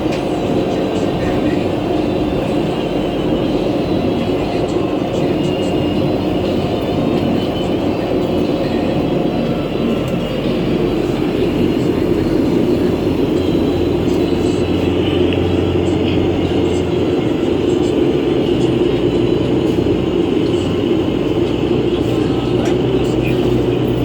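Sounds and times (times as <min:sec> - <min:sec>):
bus drivetrain and road drone: 0:00.0 - 0:24.0
high whirring fan: 0:00.0 - 0:24.0.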